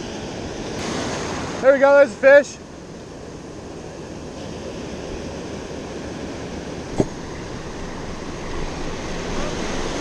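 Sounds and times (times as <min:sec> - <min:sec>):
ocean surf washing: 0:00.0 - 0:10.0.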